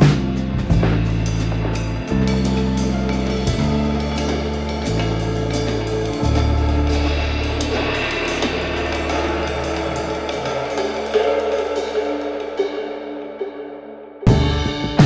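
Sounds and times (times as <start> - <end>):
held bass line: 0.0 - 12.7
drum kit: 0.0 - 13.4, 14.2 - 15.0
cymbals: 0.0 - 15.0.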